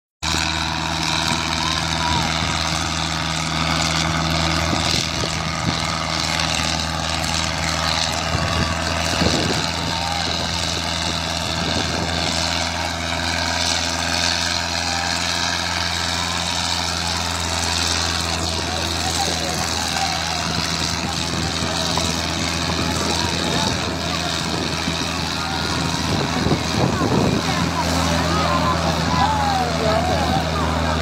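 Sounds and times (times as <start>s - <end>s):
tractor diesel engine running: 0.2s - 31.0s
crowd shouting: 0.6s - 31.0s.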